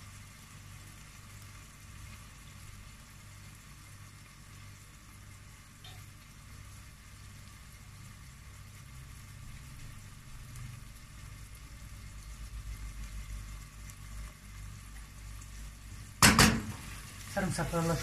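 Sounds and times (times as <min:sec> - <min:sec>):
vegetables sizzling in a pot: 0:00.0 - 0:18.0.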